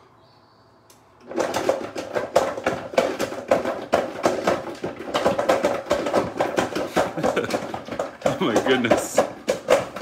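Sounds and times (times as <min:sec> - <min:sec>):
hard pieces rattling in blender: 0:01.2 - 0:10.0.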